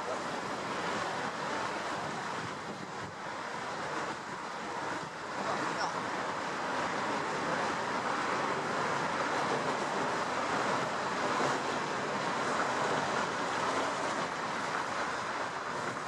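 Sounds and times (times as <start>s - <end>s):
wind and sea rushing: 0.0s - 16.0s.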